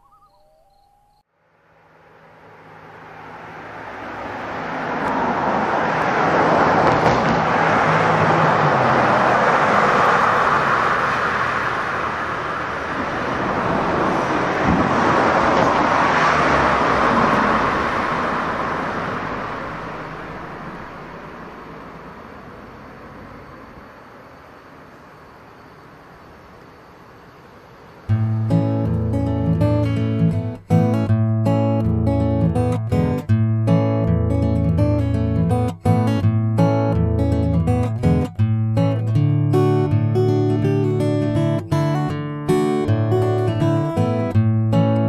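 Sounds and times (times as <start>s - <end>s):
road traffic passing: 1.2s - 45.0s.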